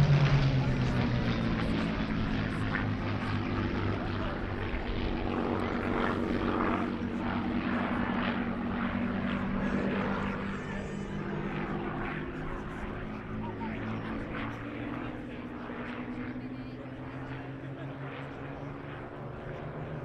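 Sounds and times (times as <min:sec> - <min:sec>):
propeller plane engines droning: 0:00.0 - 0:20.0.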